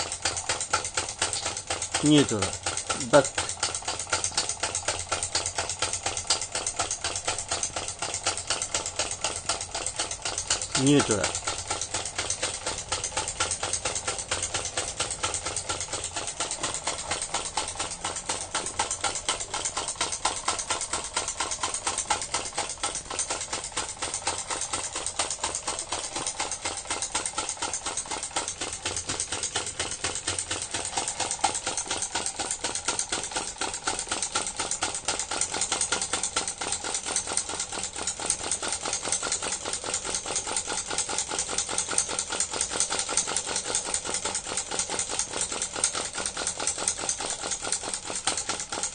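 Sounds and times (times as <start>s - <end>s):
small engine clattering: 0.0s - 48.9s.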